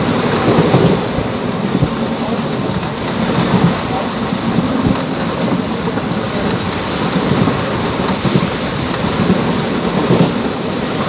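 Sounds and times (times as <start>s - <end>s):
train rushing noise: 0.0s - 11.0s.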